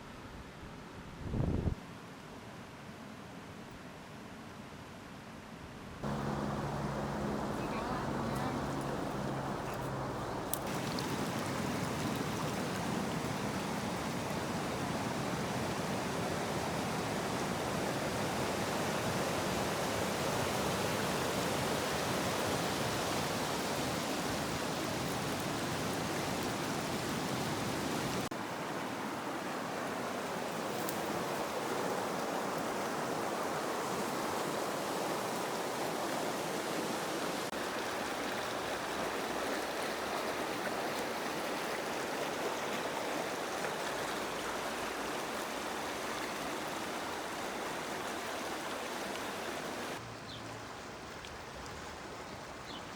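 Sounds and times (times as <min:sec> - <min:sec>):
river rushing water: 0:06.0 - 0:52.9.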